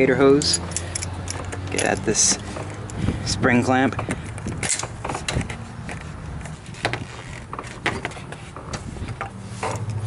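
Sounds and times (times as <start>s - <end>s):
metal clicks and knocks: 0.2s - 3.0s, 3.7s - 10.0s.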